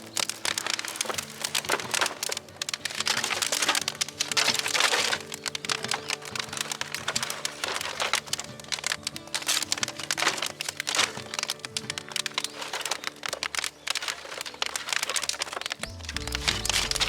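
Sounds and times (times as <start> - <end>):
background music: 0.0 - 17.0
wood fire crackling: 0.0 - 17.0.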